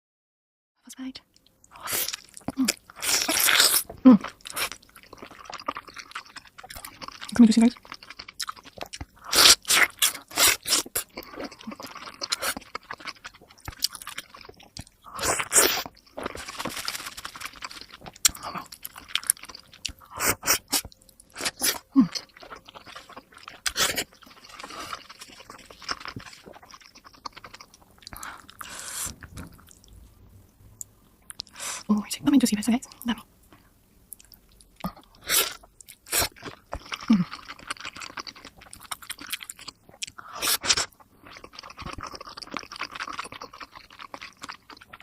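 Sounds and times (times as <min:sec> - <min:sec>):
crunchy chewing: 0:01.7 - 0:29.9, 0:34.2 - 0:45.0.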